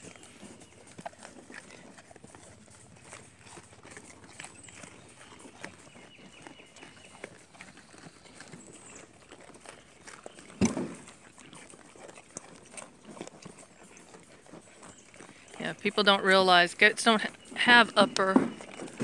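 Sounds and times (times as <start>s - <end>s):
goats chewing and crunching: 0.0s - 19.0s.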